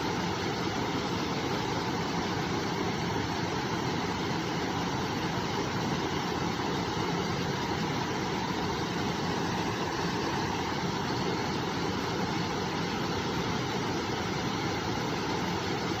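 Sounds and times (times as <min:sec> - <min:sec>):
river flowing: 0:00.0 - 0:16.0.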